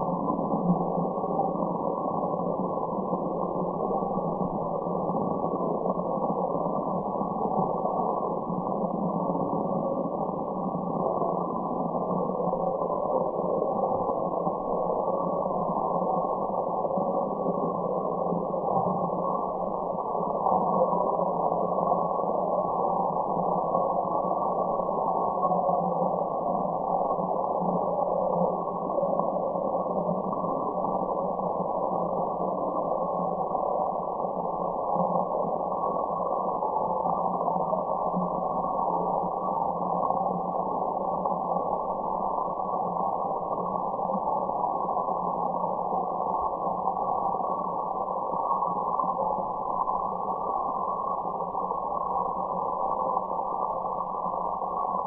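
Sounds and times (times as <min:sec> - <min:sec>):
muffled white noise: 0:00.0 - 0:55.0.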